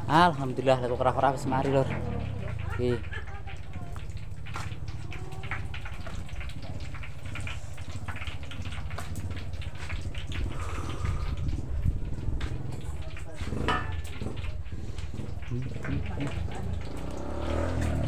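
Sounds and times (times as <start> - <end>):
low rumble of stove: 0.0 - 18.0
food stirred in a pan: 0.9 - 18.0.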